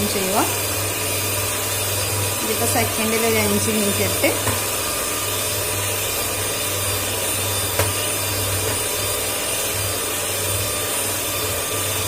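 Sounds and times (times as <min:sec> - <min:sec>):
hand mixer whisking eggs: 0:00.0 - 0:12.0.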